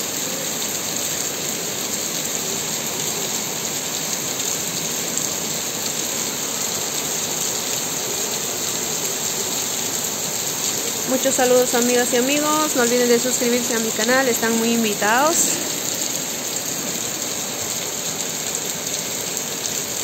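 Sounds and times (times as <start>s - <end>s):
heavy rain on wet pavement: 0.0s - 20.0s.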